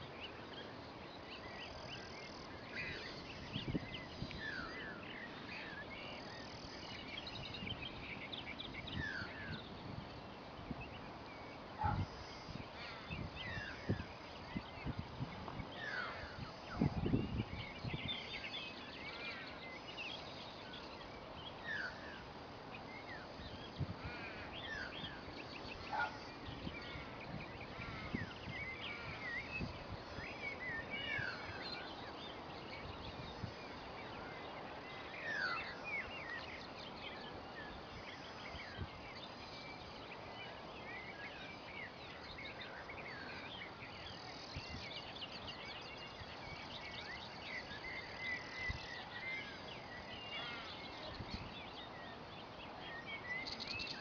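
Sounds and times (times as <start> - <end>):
birds chirping: 0.0 - 54.0
wetland background: 0.0 - 54.0.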